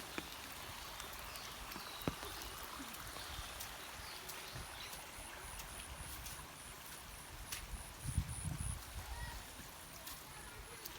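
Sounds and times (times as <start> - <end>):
sharp drip-like taps: 0.0 - 8.9
steady rain falling: 0.0 - 10.9.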